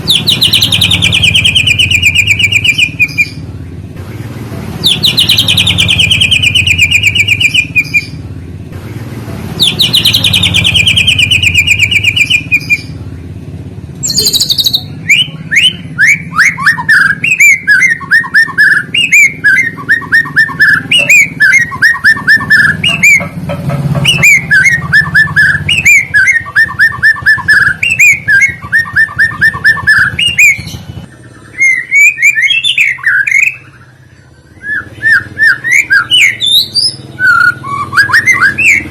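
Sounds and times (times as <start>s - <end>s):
songbird whistled notes: 0.0s - 3.4s, 4.8s - 8.2s, 9.6s - 12.9s, 14.0s - 23.4s, 24.0s - 38.9s.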